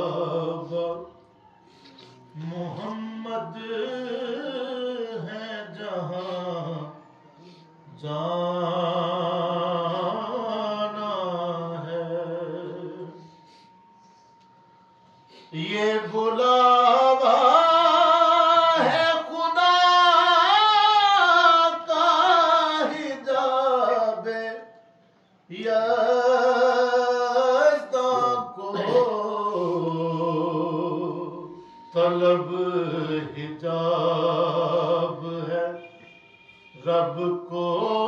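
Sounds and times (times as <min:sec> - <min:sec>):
solo voice singing devotional song: 0:00.0 - 0:01.3, 0:02.2 - 0:13.6, 0:15.4 - 0:36.1, 0:36.8 - 0:38.0.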